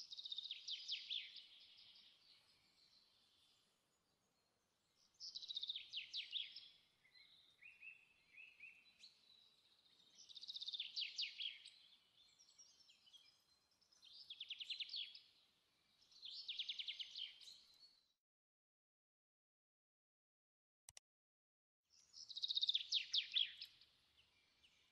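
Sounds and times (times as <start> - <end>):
soft bird chirps: 0.0 - 18.2, 21.9 - 24.9.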